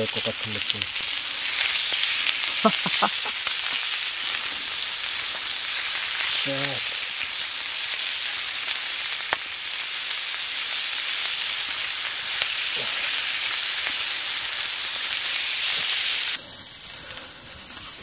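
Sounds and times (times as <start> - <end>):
pork sizzling in a pan: 0.0 - 18.0.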